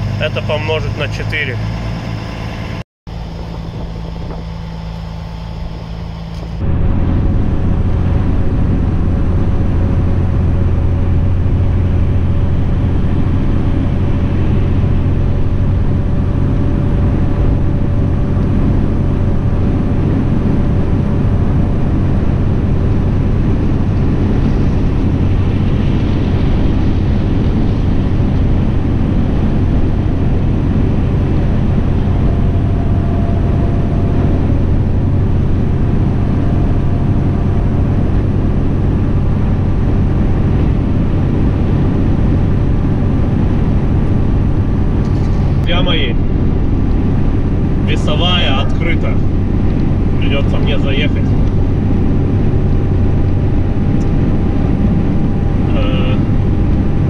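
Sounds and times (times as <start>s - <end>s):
engine and tyre drone: 0.0s - 57.0s
engine idling hum: 0.0s - 57.0s.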